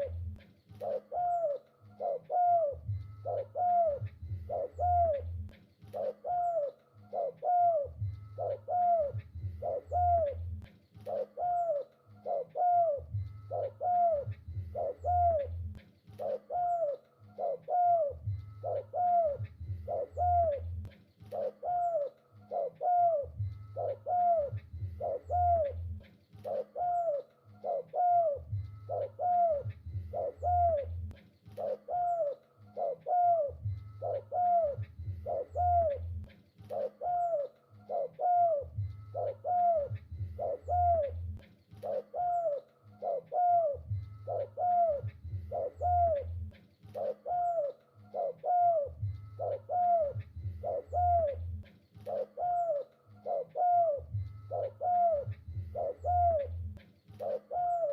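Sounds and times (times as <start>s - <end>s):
deeper low cooing: 0.0s - 57.9s
dove cooing: 0.0s - 57.9s.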